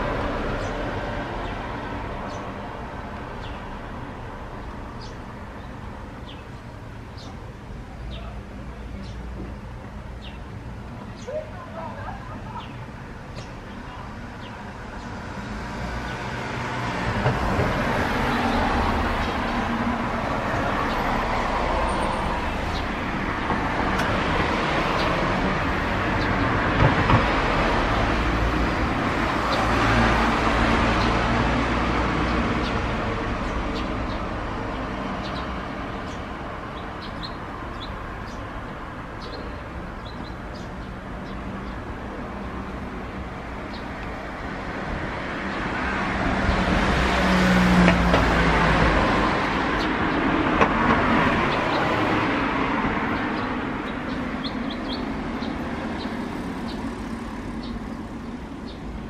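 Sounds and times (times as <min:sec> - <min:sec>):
cars passing along street: 0:00.0 - 0:59.0.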